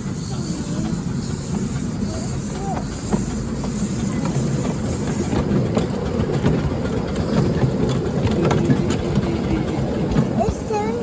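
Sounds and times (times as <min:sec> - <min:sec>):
miniature train rumbling on track: 0:00.0 - 0:11.0.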